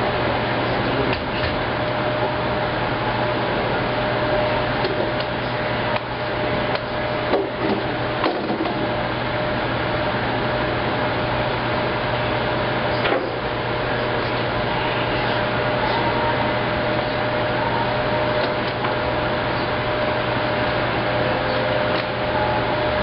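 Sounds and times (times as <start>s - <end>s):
washing machine whirring: 0.0s - 23.0s.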